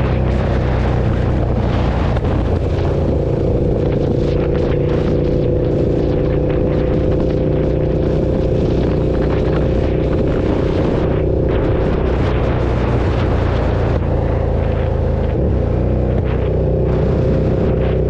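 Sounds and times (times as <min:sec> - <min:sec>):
motorcycle engine cruising: 0:00.0 - 0:18.0
rushing noise: 0:00.0 - 0:18.0.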